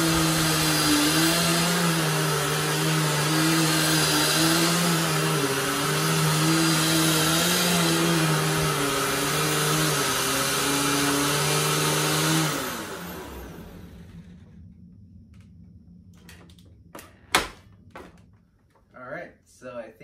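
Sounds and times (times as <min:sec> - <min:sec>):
vacuum cleaner motor hum: 0:00.0 - 0:16.9.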